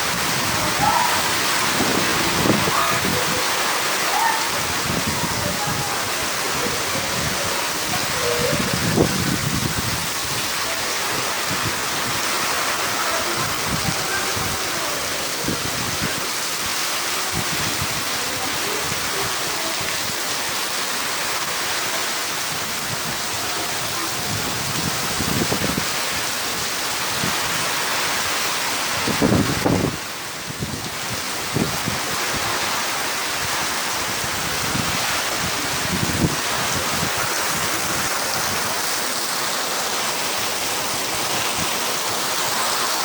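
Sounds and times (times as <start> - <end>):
rumbling wind gusts: 0.0 - 20.2, 22.4 - 43.0
heavy rain falling: 0.0 - 43.0.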